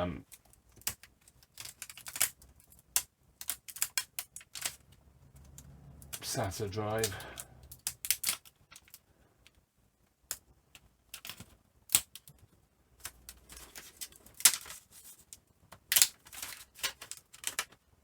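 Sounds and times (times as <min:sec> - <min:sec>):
laptop parts clicking and scraping: 0:00.2 - 0:06.2, 0:07.0 - 0:09.6, 0:10.3 - 0:17.8.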